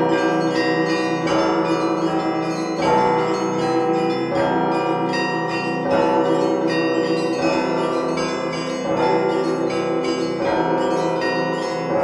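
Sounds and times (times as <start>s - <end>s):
deep church bell: 0.0s - 12.0s
smaller bells ringing: 0.0s - 12.0s.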